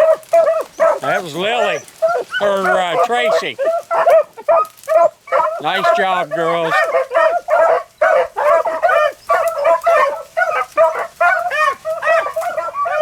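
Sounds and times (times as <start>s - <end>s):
beagles baying: 0.0s - 13.0s.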